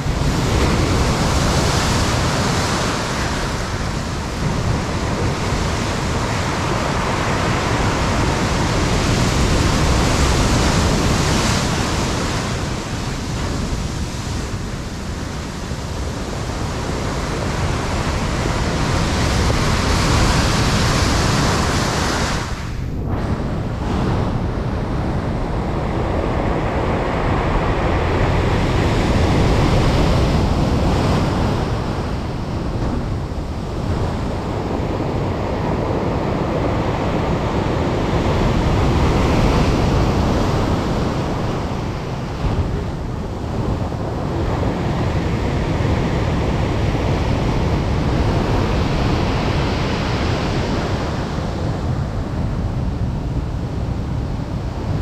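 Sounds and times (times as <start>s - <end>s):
storm waves breaking: 0.0s - 55.0s.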